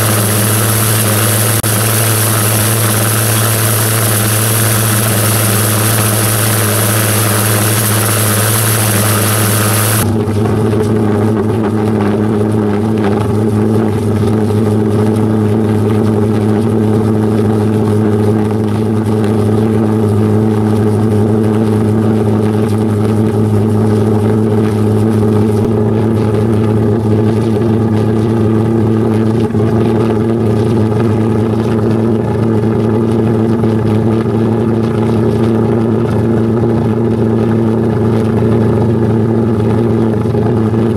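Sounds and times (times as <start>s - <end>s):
pulse jet engine drone: 0.0s - 40.9s.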